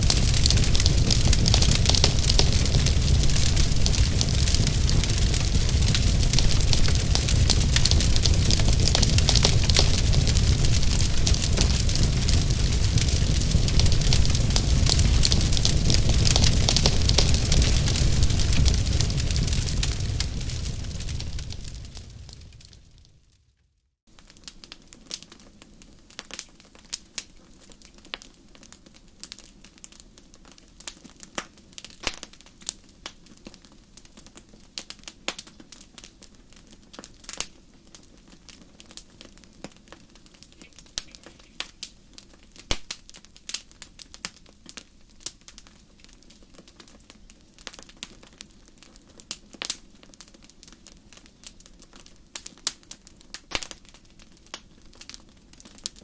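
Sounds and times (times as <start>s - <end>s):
low fire hiss: 0.0s - 23.4s, 24.1s - 56.0s
wood fire crackling and popping: 0.0s - 23.4s, 24.1s - 56.0s.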